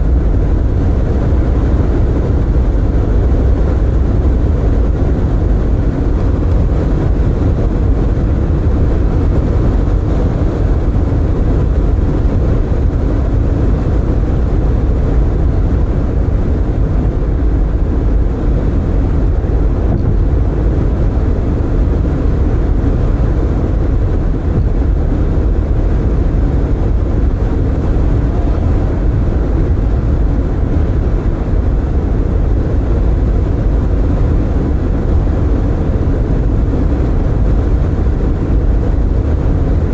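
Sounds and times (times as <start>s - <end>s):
tyres rumbling on road: 0.0s - 39.9s
wind through open windows: 0.0s - 39.9s.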